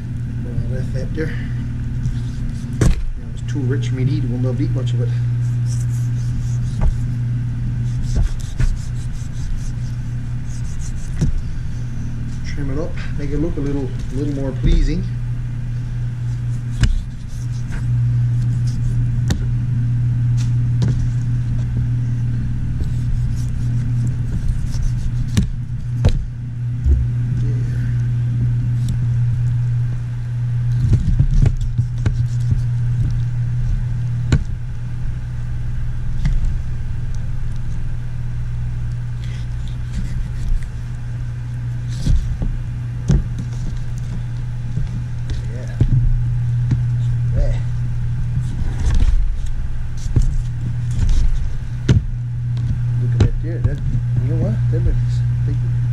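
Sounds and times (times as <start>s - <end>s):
low machine hum: 0.0s - 55.9s.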